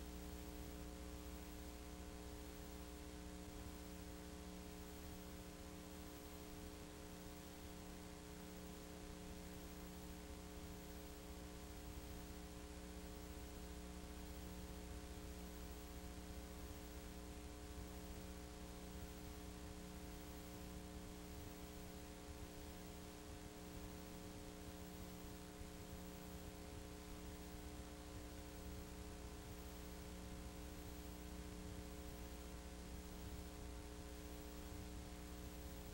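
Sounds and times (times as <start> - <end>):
electrical mains hum: 0.0 - 35.9.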